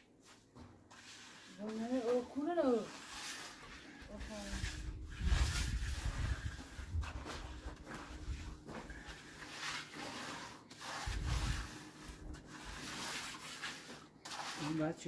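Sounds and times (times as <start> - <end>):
rubbing or scraping strokes: 0.0 - 15.0.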